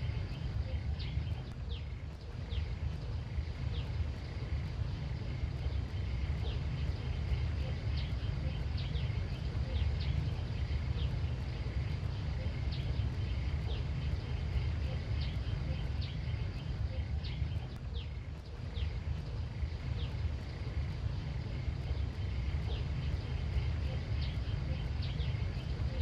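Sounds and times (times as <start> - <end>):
faint high drone: 0.0 - 26.0
low rumble: 0.0 - 26.0.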